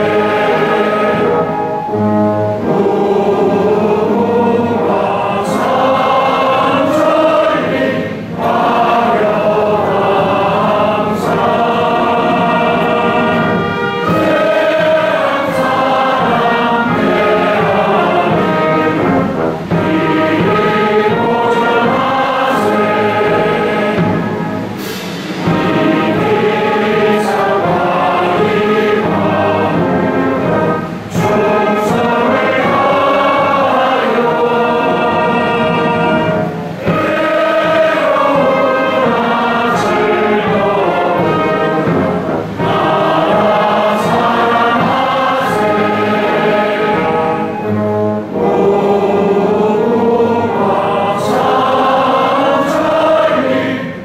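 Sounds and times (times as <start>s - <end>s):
crowd singing in chorus: 0.0s - 54.0s.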